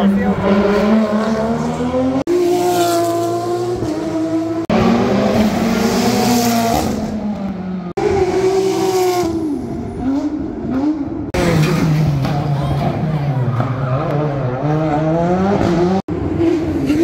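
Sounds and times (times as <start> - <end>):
rally car engines revving: 0.0 - 17.0.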